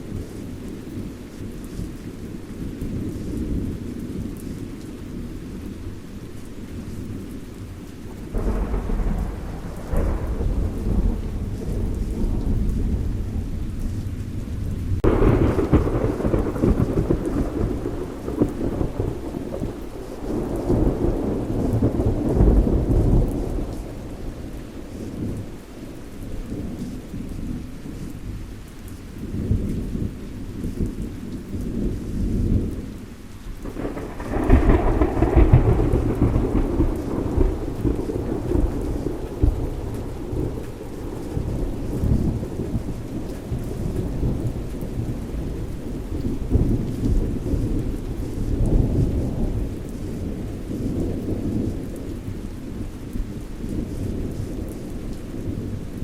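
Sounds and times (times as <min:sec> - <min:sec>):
steady rain: 0:00.0 - 0:56.0
thunderclaps rumbling: 0:06.8 - 0:28.4, 0:29.2 - 0:56.0.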